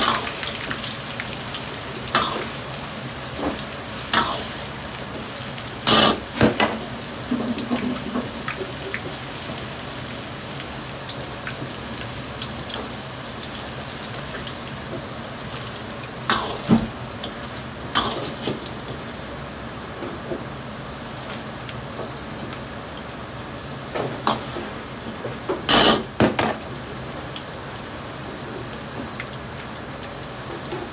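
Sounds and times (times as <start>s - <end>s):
oil sizzling in a wok: 0.0s - 30.9s.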